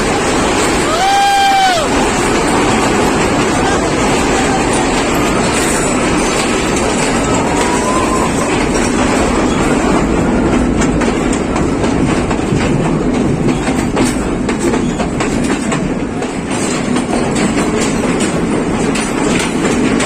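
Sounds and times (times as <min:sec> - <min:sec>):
train rumbling and wheels clattering: 0:00.0 - 0:20.0.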